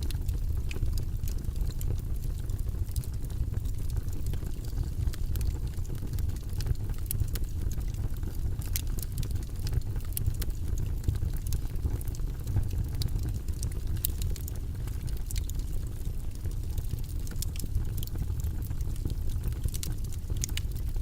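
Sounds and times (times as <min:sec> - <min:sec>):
faint crackles and clicks: 0:00.0 - 0:21.0.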